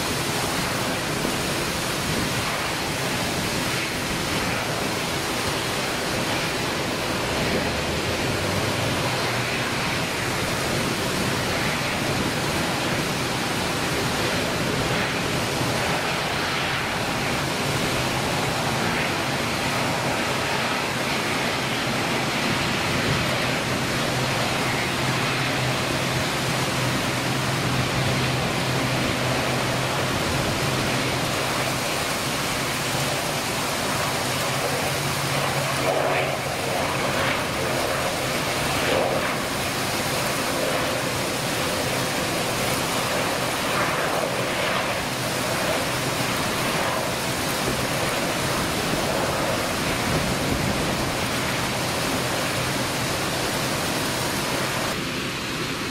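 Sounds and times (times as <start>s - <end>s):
heavy rain hissing: 0.0s - 55.9s
turboprop engines humming: 0.0s - 55.9s.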